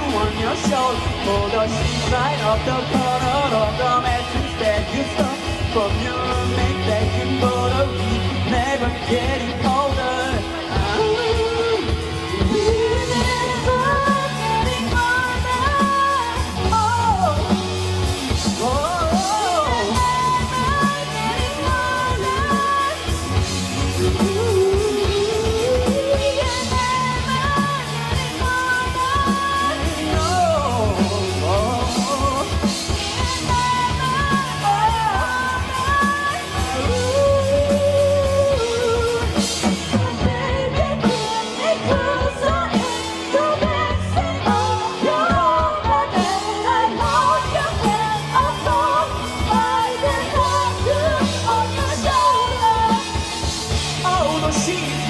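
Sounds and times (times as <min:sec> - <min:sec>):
bass guitar: 0:00.0 - 0:55.0
drums: 0:00.0 - 0:55.0
electric guitars: 0:00.0 - 0:55.0
male vocalist singing: 0:00.0 - 0:55.0.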